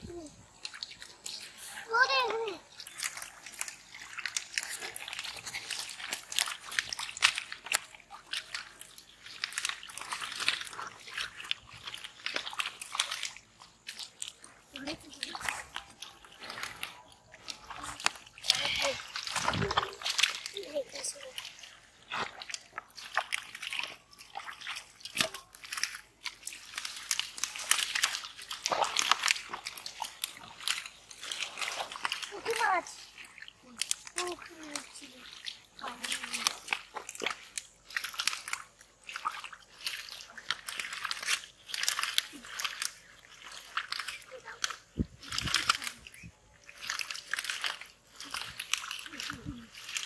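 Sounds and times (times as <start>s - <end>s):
hands squelching in wet mud: 0.0s - 50.0s.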